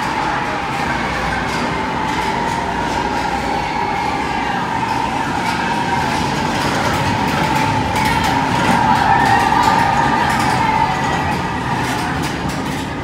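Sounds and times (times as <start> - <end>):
ride vehicle rumbling on track: 0.0 - 13.0.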